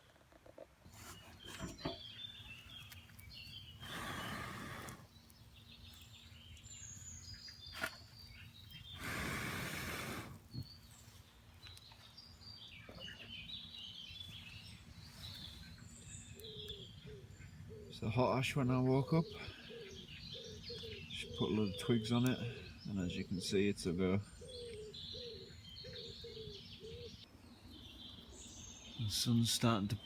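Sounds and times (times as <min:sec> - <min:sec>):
small birds chirping: 0:00.8 - 0:30.0.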